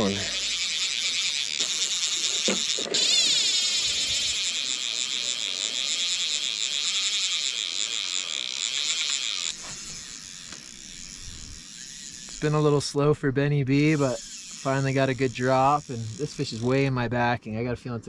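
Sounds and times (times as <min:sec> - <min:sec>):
fishing reel drag buzzing: 0:00.0 - 0:17.6.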